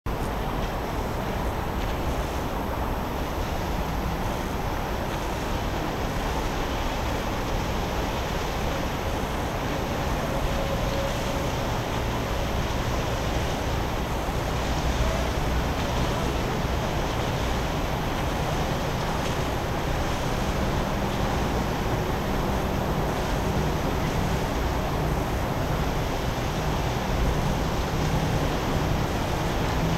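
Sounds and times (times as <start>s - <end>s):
boat engine rumble: 0.1s - 29.9s
water washing: 0.2s - 29.9s.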